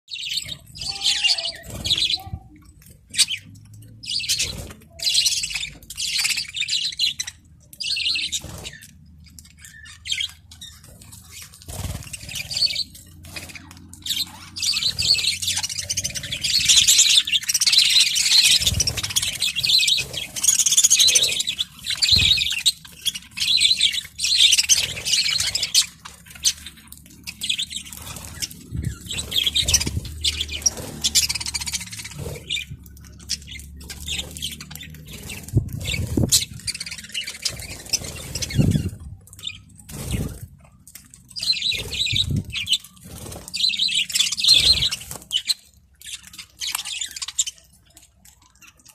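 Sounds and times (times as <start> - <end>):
budgerigars twittering: 0.1 - 48.9.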